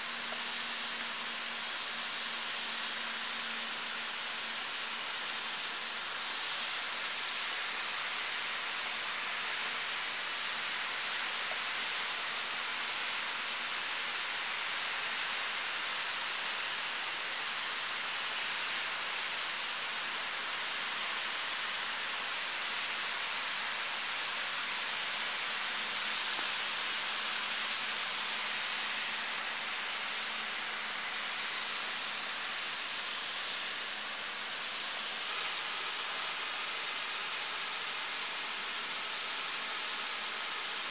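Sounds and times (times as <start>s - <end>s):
snow gun spraying hiss: 0.0s - 40.9s.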